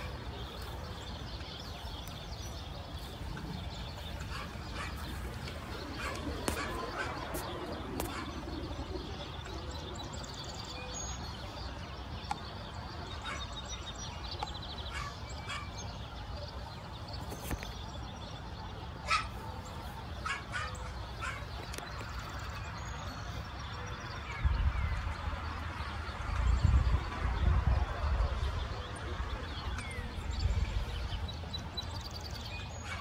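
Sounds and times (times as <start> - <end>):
low outdoor background noise: 0.0 - 33.0.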